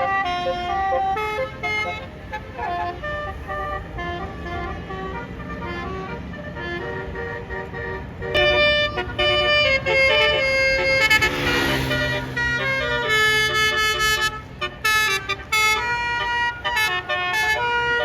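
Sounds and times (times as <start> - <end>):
musical bus horn playing tune: 0.0 - 18.0.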